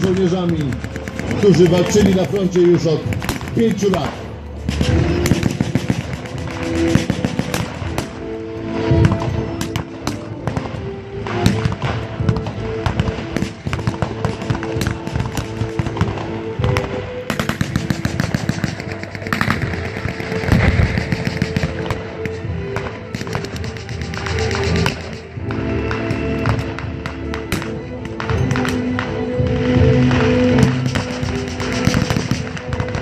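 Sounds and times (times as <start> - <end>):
background music with held notes: 0.0 - 33.0
blank gunfire shots and bursts: 0.0 - 33.0.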